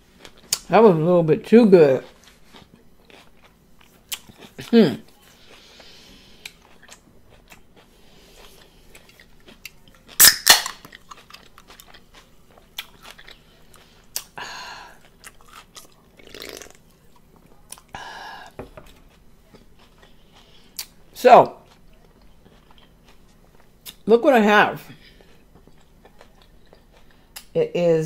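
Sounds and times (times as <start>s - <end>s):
person chewing: 0.2s - 0.7s, 2.0s - 24.1s, 24.9s - 27.6s.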